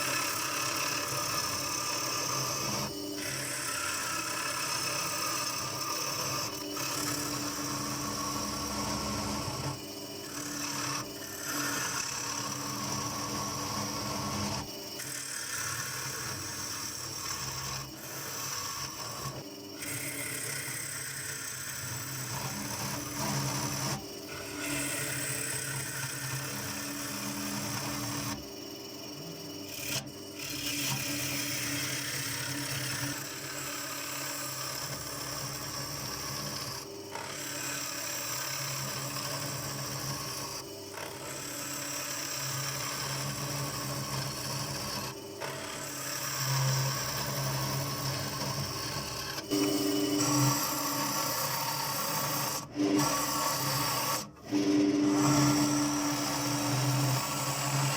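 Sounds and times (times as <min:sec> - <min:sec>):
tool scraping spinning wood: 0:00.0 - 0:57.9
wood lathe motor hum: 0:00.0 - 0:57.9.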